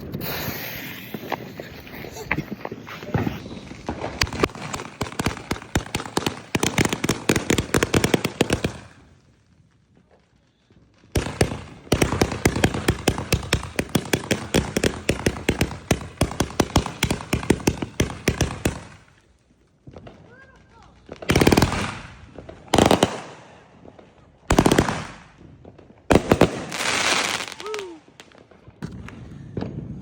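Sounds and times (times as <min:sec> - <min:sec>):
fireworks bangs: 0:00.0 - 0:09.2, 0:09.9 - 0:19.2, 0:19.8 - 0:30.0.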